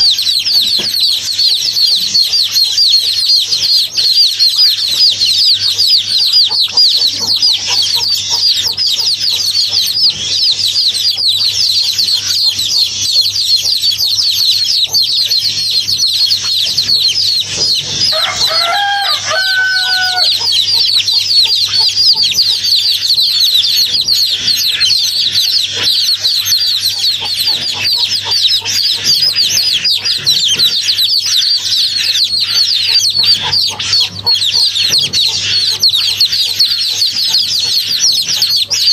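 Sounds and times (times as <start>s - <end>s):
birds chirping in chorus: 0.0s - 38.9s
longer lower bird call: 0.0s - 38.9s.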